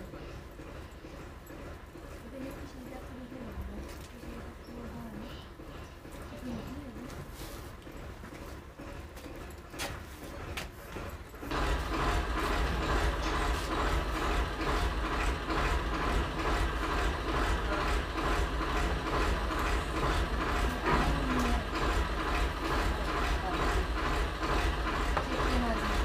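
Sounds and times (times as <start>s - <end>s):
machine humming with fast beat: 0.0s - 7.2s, 10.3s - 26.0s.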